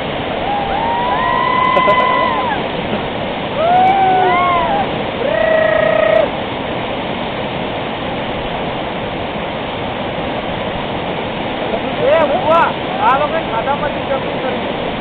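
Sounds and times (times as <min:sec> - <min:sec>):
whitewater rapids rushing: 0:00.0 - 0:15.0.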